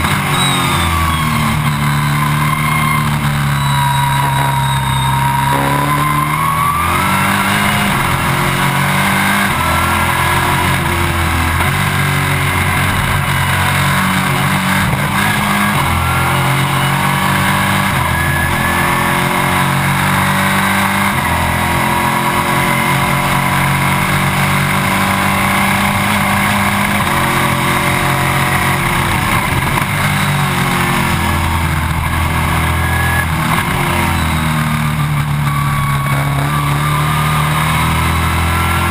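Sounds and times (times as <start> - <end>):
race car engine revving through gears: 0.0 - 38.9.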